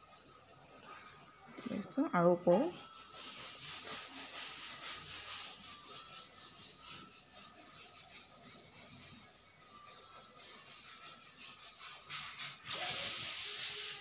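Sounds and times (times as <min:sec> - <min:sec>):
hands rubbing gritty flour: 0:02.7 - 0:14.0.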